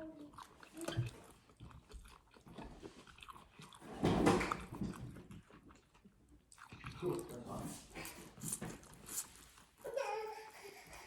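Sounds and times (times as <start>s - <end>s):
wet crunchy chewing: 0.2s - 9.8s.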